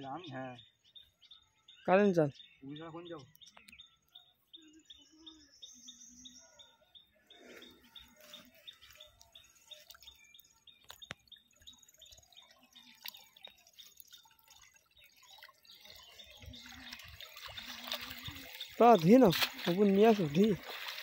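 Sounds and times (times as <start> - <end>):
small bird chirps: 0.0 - 21.0.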